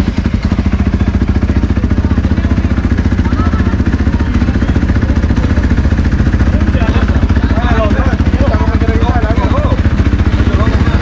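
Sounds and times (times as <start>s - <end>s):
motorbike engine idling: 0.0s - 11.0s.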